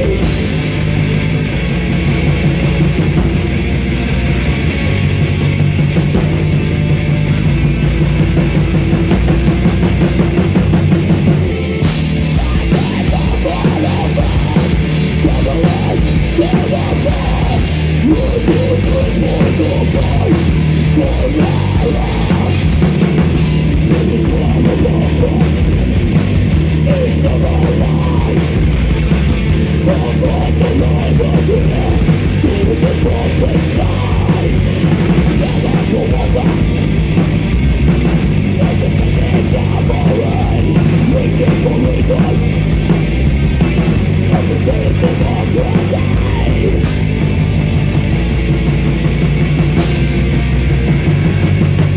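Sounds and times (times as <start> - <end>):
heavy metal band playing live: 0.0 - 51.9.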